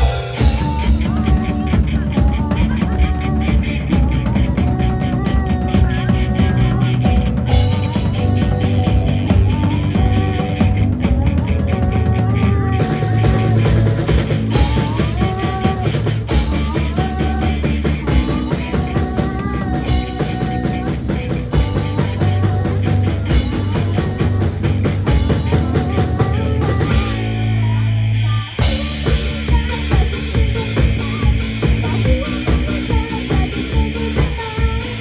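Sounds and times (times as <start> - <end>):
drum kit and cymbals: 0.0 - 35.0
electric guitars: 0.0 - 35.0
keyboard: 0.0 - 35.0
woman singing lead: 0.0 - 35.0.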